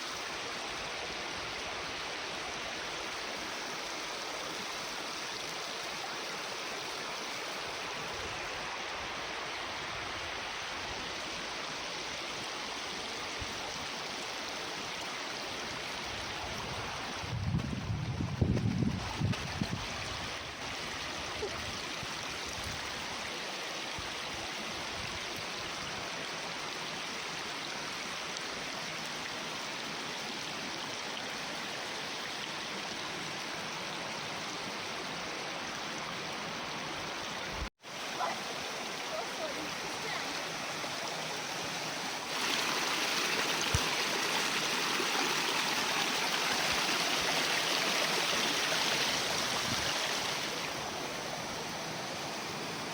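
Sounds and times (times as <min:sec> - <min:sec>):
water rushing over rocks: 0:00.0 - 0:52.9.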